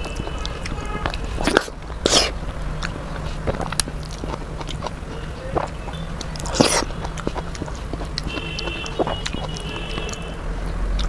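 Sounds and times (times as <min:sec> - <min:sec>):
chewing with mouth clicks: 0:00.0 - 0:11.0.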